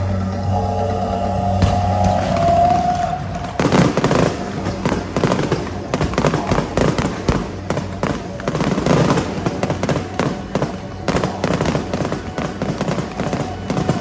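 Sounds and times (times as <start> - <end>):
fireworks banging and crackling: 1.6 - 14.0.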